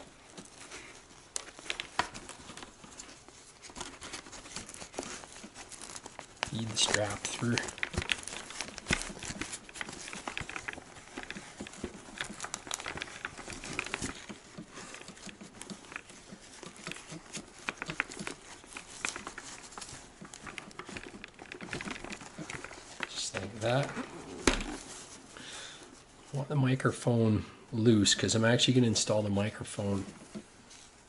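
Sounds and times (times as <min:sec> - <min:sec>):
fabric padding rustling: 0:00.0 - 0:27.2, 0:28.0 - 0:31.0.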